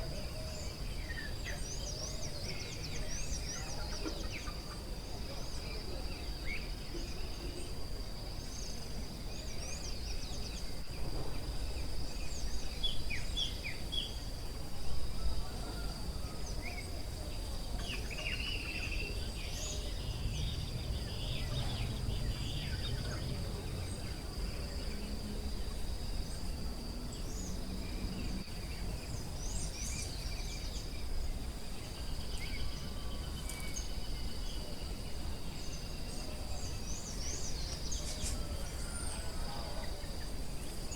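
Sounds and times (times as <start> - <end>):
low rumbling background noise: 0.0 - 40.9.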